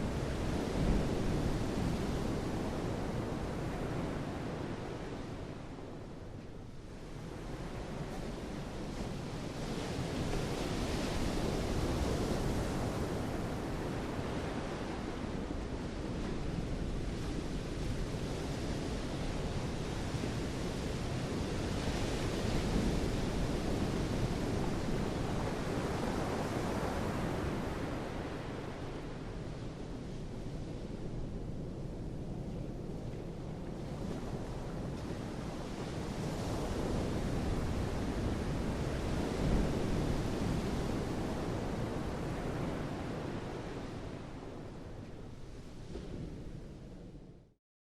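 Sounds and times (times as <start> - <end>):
wind: 0.0 - 47.6.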